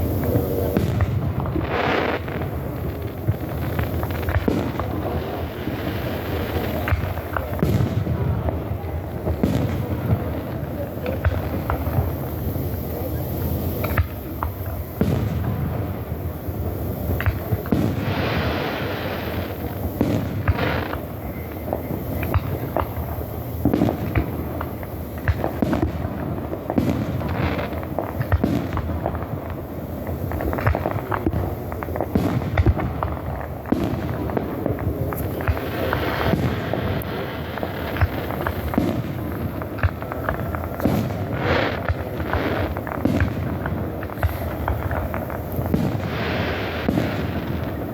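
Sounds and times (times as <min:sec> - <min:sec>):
fireworks booms and pops: 0:00.0 - 0:47.9.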